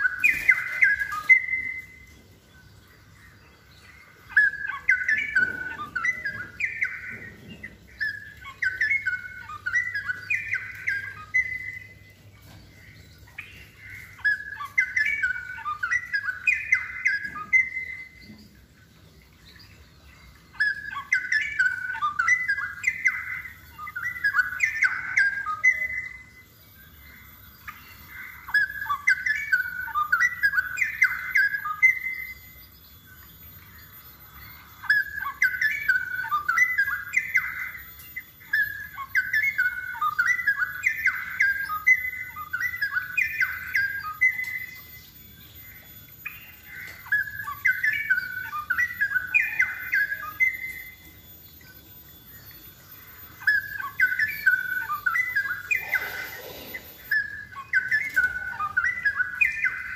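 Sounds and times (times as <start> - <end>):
bird singing warbling phrases: 0.0 - 59.9.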